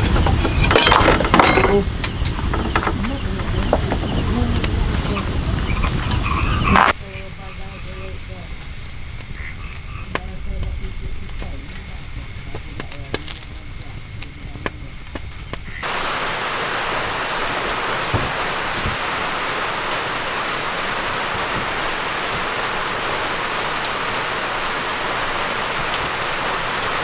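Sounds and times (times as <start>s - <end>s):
fire crackling and popping: 0.0s - 27.0s
rain on plastic sheeting: 0.0s - 27.0s.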